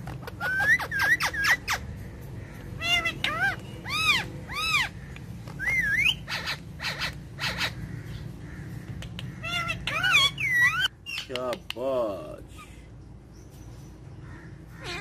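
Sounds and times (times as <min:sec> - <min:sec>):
parakeets squawking: 0:00.0 - 0:11.4, 0:14.1 - 0:15.0.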